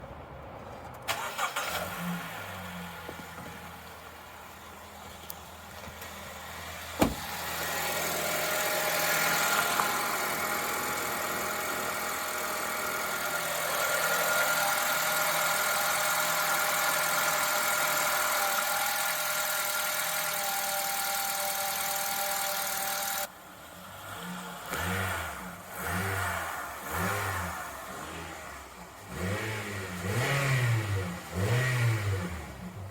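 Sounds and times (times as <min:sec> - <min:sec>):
car engine idling and revving: 0:00.4 - 0:32.9.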